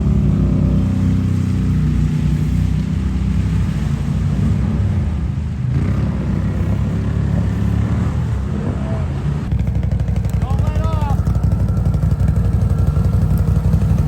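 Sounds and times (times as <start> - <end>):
atv engine droning: 0.0 - 14.0.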